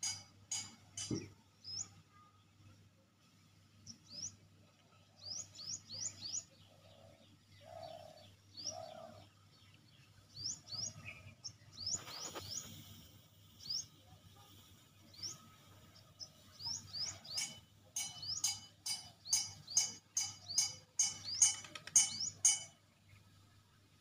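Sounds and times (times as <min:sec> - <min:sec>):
small birds chirping: 0:00.0 - 0:02.9, 0:03.6 - 0:23.7.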